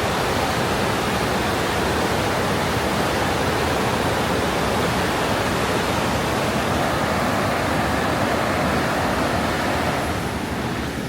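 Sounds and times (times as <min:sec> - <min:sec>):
waterfall rushing loudly: 0:00.0 - 0:11.0.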